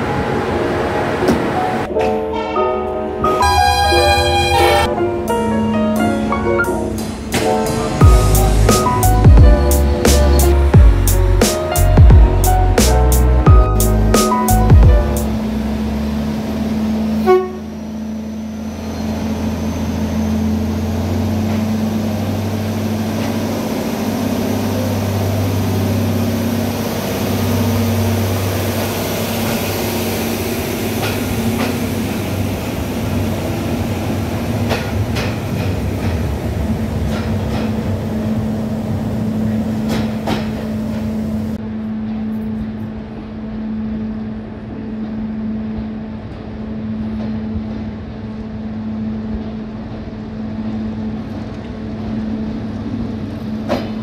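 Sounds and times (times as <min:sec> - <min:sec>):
diesel train engine humming: 0:00.0 - 0:54.0.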